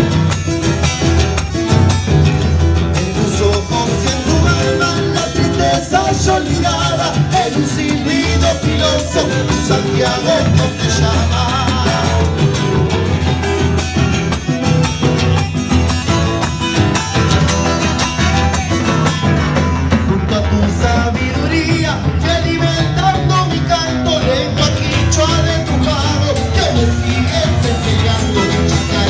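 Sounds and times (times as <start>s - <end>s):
acoustic guitars strummed: 0.0s - 29.0s
drum beat: 0.0s - 29.0s
people singing: 2.7s - 14.6s, 16.6s - 29.0s.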